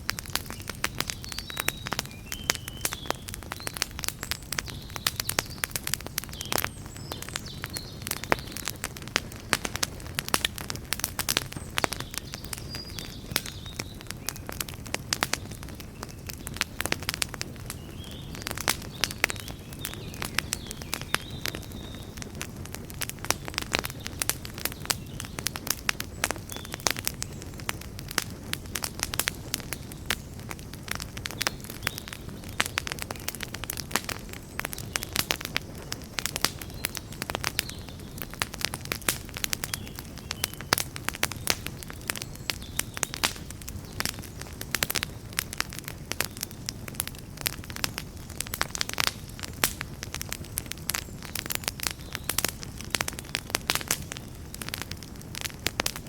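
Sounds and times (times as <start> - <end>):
campfire crackling and popping: 0.0 - 56.0
low rumble of burning fire: 0.0 - 56.0.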